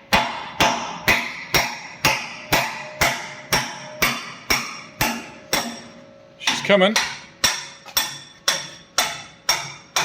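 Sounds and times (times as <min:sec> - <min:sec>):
hammer ringing on steel: 0:00.1 - 0:10.0.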